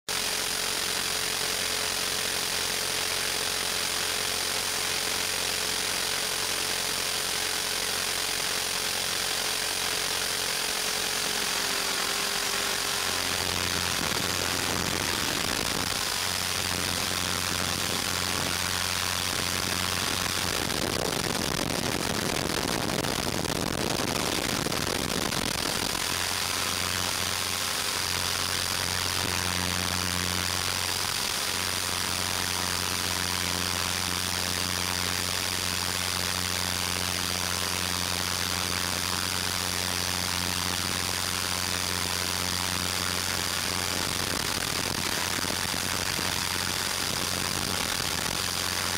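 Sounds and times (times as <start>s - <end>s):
rc helicopter hum and whine: 0.1s - 48.9s.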